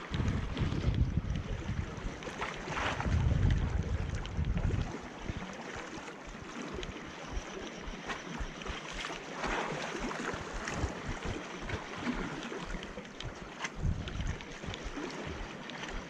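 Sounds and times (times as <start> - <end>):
wind buffeting microphone: 0.0 - 5.6, 6.7 - 16.0
sea water lapping against rocks: 0.0 - 16.0
water splashing: 0.0 - 16.0.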